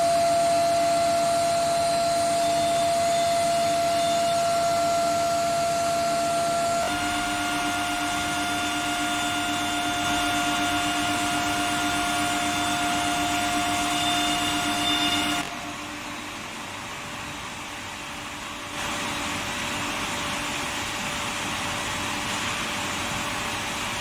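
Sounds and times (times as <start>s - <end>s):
furnace hiss: 0.0s - 24.0s
furnace whine: 0.0s - 24.0s.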